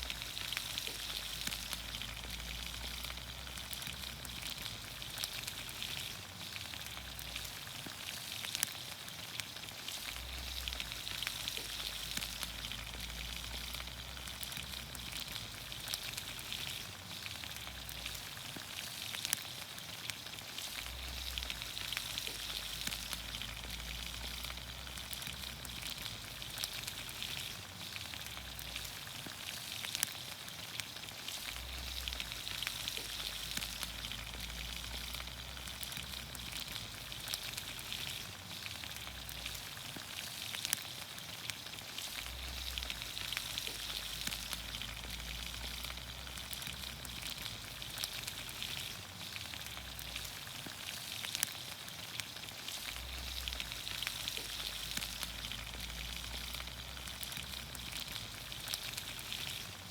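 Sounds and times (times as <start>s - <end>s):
small crackling pops: 0.0s - 59.9s
vegetables sizzling in oil: 0.0s - 59.9s.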